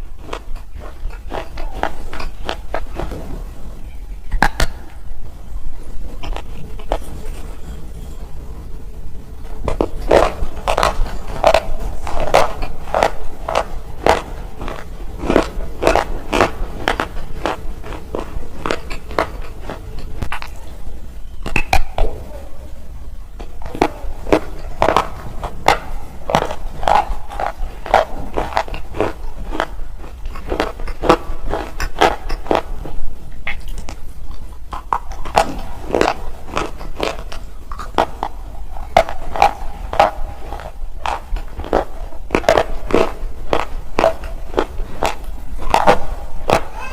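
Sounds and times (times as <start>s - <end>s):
crunchy chewing of stone chips: 0.0s - 8.5s, 9.2s - 22.1s, 23.4s - 46.9s.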